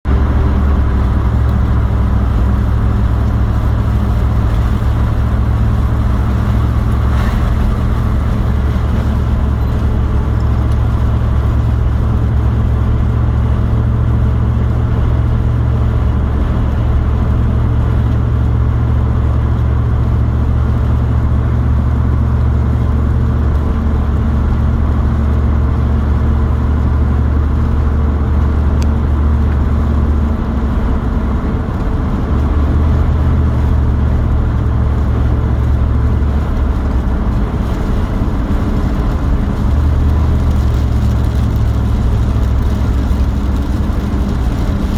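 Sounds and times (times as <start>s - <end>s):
road noise: 0.0s - 44.9s
vehicle engine hum: 0.0s - 44.9s.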